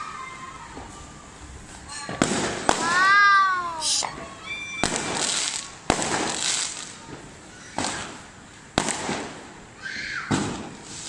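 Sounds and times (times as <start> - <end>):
fireworks bangs with crackling: 1.7 - 11.0.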